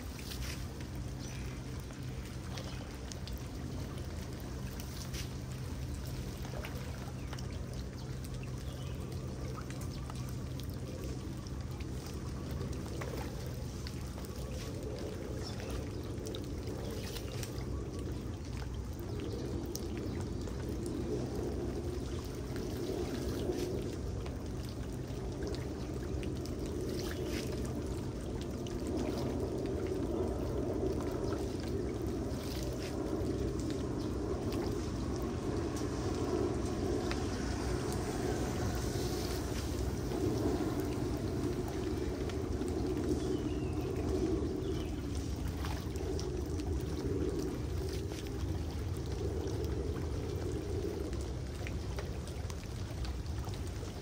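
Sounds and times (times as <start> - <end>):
water rushing into storm drain: 0.0 - 54.0.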